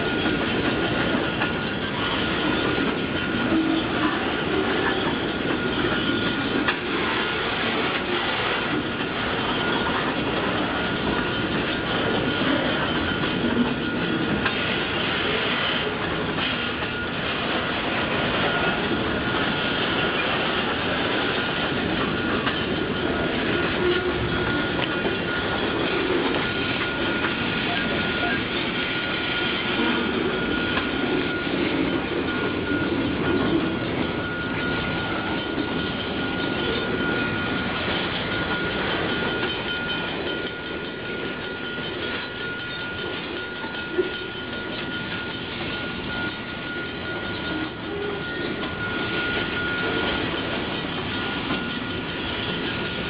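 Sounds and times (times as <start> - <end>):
train wheels clattering: 0.0 - 53.0.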